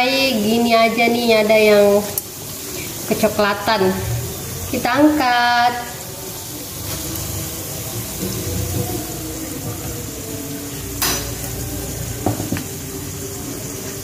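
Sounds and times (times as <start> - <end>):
dough sizzling in hot oil: 0.0 - 14.0.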